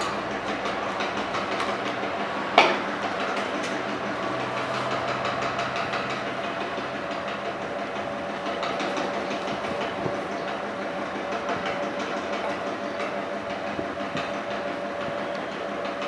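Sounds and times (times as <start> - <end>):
potter's wheel rumbling: 0.0 - 16.0.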